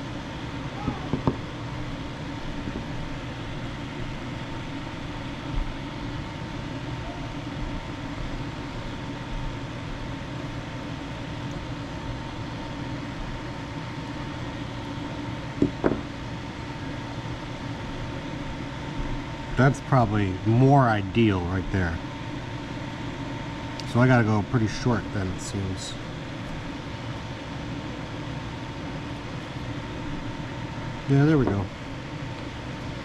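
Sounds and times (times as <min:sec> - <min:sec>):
fan-like hum: 0:00.0 - 0:33.0.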